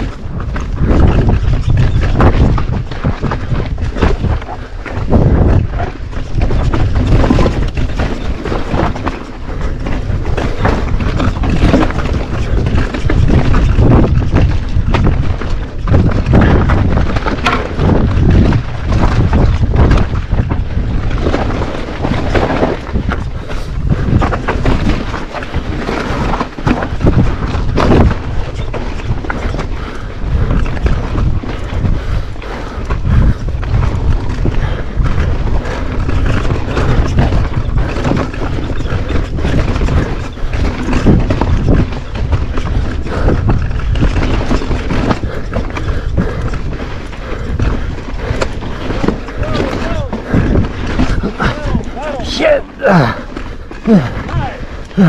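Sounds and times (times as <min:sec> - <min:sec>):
bike frame rattling: 0:00.0 - 0:55.0
bike tyres clattering over rock: 0:00.0 - 0:55.0
wind buffeting microphone: 0:00.0 - 0:55.0.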